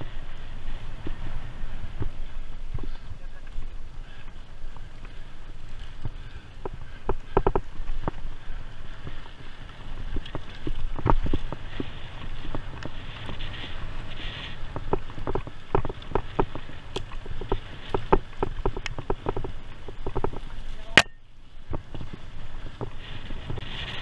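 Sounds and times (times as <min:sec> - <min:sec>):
bike rattling over gravel: 0:00.0 - 0:24.0
wind rumble on microphone: 0:00.0 - 0:24.0.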